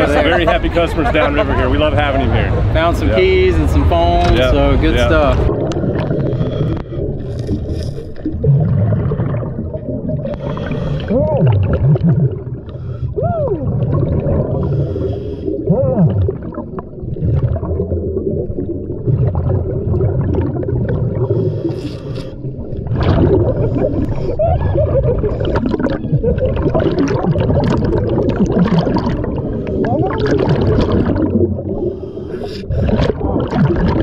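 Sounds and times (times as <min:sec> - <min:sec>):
gurgling exhaled bubbles: 0:03.7 - 0:34.0.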